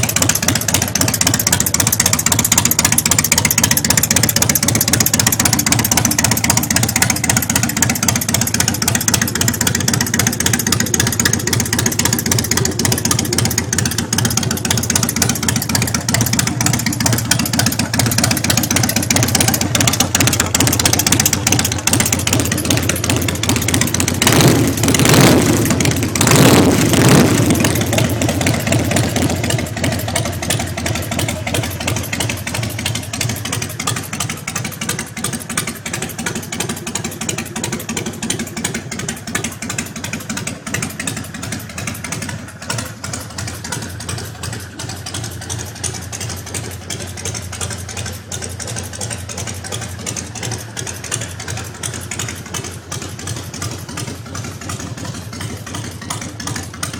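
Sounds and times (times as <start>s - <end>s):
motorcycle engine revving and idling: 0.0s - 56.9s.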